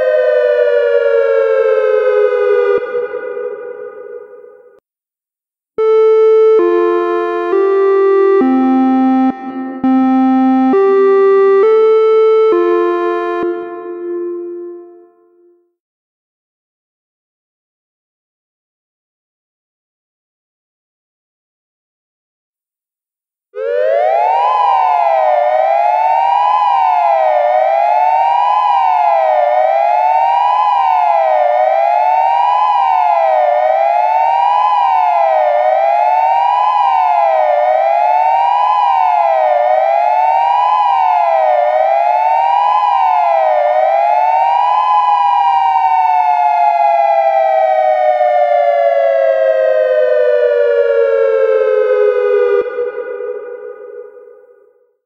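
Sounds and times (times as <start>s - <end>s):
dual tone warning siren wailing: 0.0s - 4.8s, 5.8s - 15.5s, 23.6s - 54.8s.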